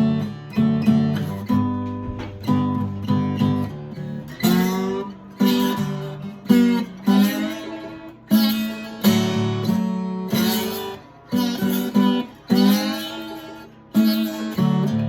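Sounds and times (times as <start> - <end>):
slide acoustic guitar chords: 0.0 - 15.0.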